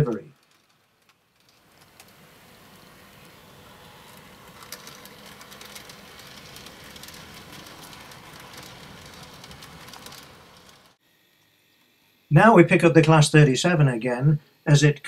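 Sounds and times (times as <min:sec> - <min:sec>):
model train whirring on track: 0:00.0 - 0:13.6.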